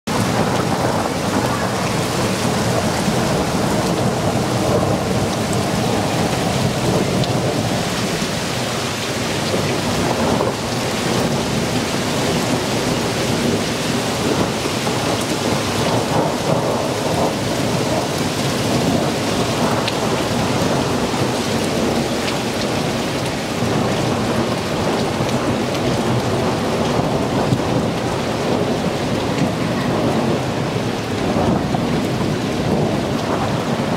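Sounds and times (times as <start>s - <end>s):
hail and rain on pavement: 0.1s - 33.9s.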